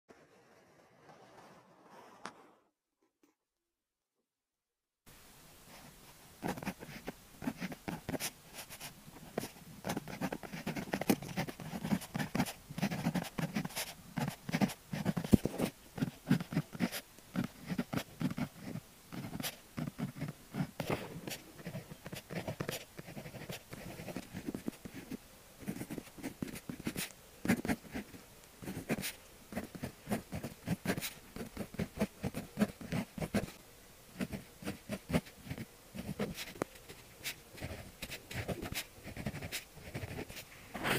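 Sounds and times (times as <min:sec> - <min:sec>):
pen scratching on paper: 0:06.4 - 0:33.5, 0:34.2 - 0:40.9.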